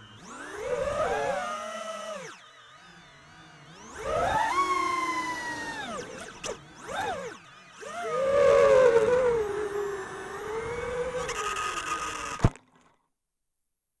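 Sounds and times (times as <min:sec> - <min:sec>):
drone motors whining: 0:00.0 - 0:12.9.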